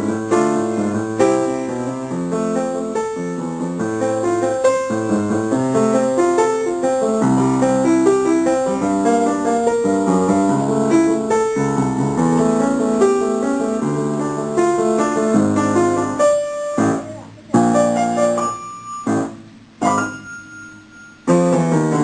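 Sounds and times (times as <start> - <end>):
solo piano playing: 0.0 - 22.0.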